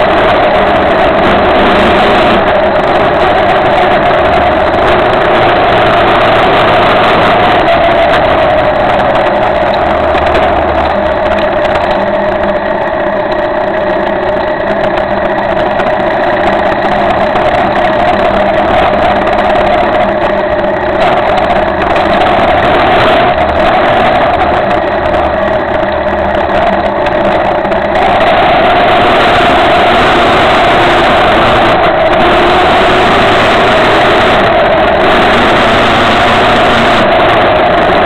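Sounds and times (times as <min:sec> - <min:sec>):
motorcycle engine droning: 0:00.0 - 0:38.0.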